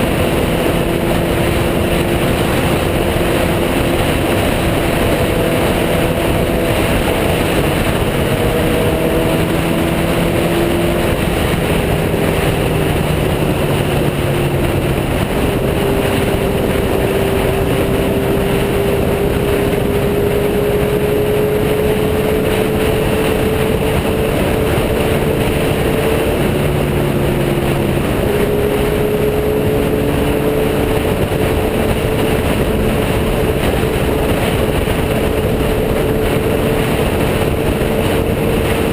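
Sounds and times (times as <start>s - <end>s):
motorcycle engine hum: 0.0s - 38.9s
wind rushing: 0.0s - 38.9s.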